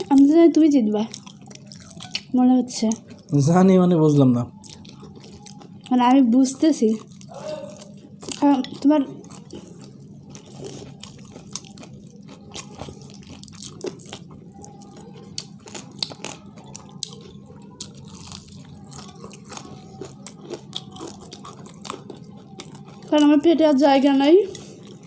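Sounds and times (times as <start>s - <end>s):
people chewing crunchy food: 0.0s - 25.0s
steady low hum: 0.0s - 25.0s.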